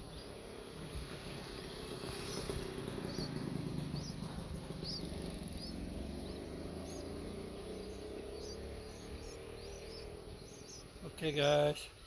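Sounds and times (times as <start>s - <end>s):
insects droning: 0.0s - 12.0s
small bird chirping: 0.0s - 12.0s.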